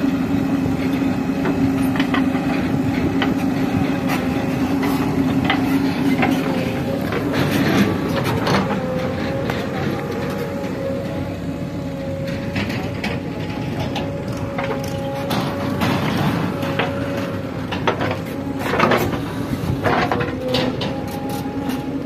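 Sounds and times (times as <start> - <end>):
diesel engine whining under load: 0.0 - 22.0.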